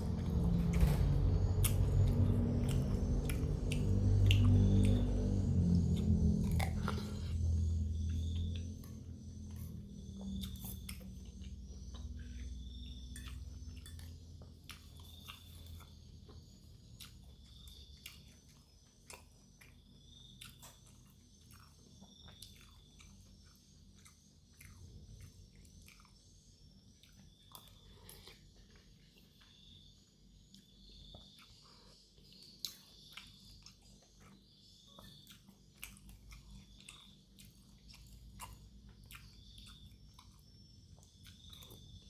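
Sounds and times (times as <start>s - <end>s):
chewing with wet mouth clicks: 1.6s - 29.8s, 30.4s - 42.0s.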